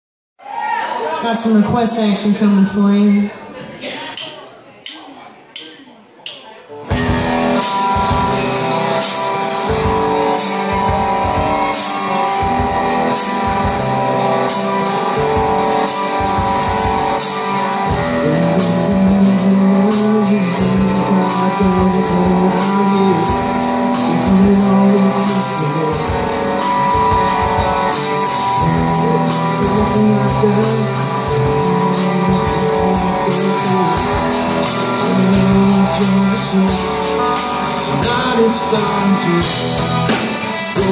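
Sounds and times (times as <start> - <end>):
drum kit beat: 3.9 - 40.9
strummed guitars: 6.7 - 40.9
bass guitar: 6.8 - 40.9.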